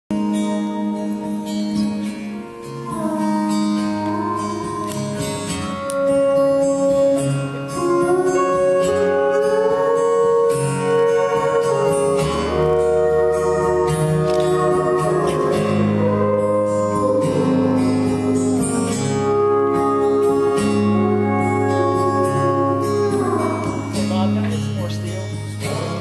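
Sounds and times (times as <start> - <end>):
live band held chords: 0.1 - 26.0
slide guitar gliding: 0.1 - 26.0.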